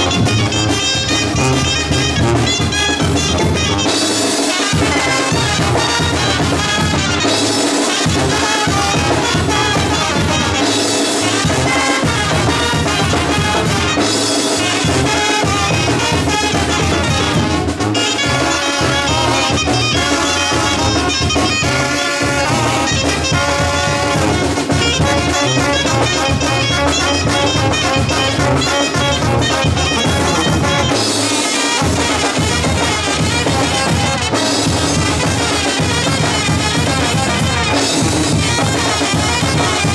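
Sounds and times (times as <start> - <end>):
brass band playing: 0.0 - 39.9.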